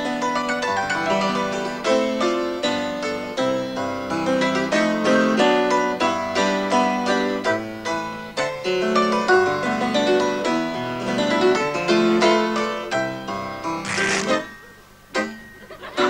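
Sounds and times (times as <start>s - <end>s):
lively piano music: 0.0s - 13.8s.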